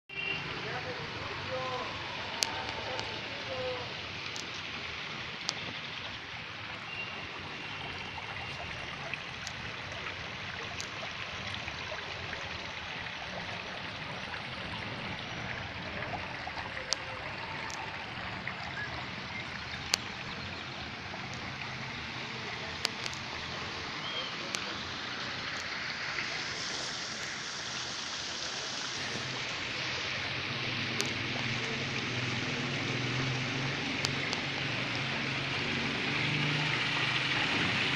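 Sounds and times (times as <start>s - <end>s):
running water in a pool: 0.1s - 37.9s.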